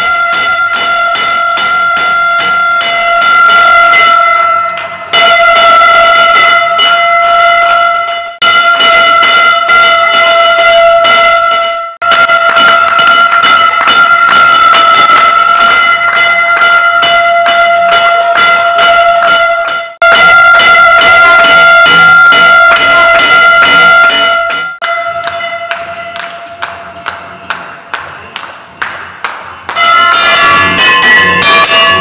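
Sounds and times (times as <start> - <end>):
brass bells rung rapidly: 0.0 - 27.5, 29.7 - 32.0.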